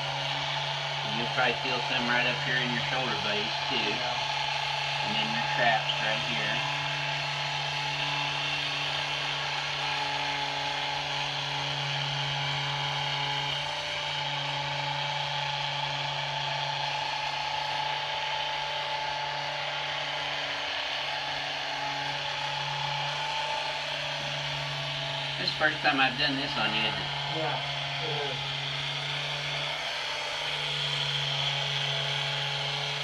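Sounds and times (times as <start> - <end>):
vibration therapy device buzzing: 0.0 - 33.0.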